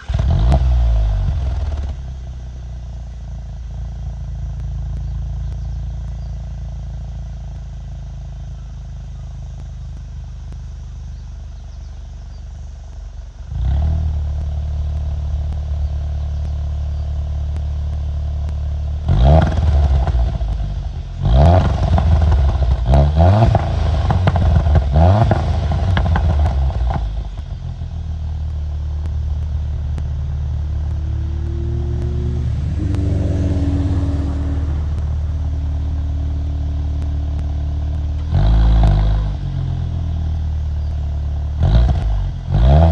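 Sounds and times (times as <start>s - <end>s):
car exhaust idling and revving: 0.0s - 42.9s.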